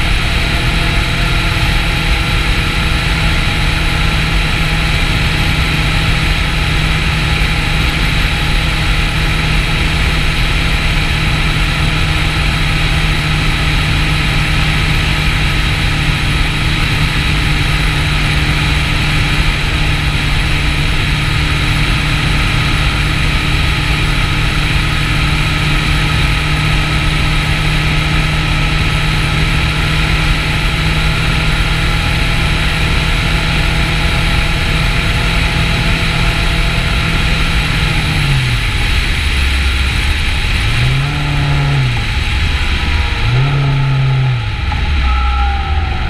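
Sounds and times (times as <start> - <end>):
motorcycle engine cruising: 0.0 - 46.0
wind rush: 0.0 - 46.0.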